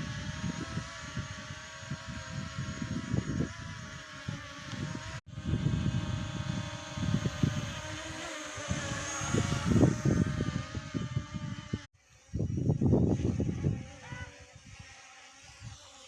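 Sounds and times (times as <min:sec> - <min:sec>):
drone propellers whining: 0:00.0 - 0:14.6
wind buffeting microphone: 0:00.0 - 0:14.9.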